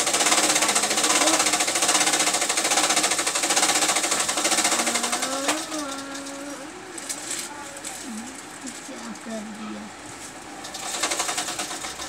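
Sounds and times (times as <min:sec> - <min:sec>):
rapid mechanical rattle: 0:00.0 - 0:12.0.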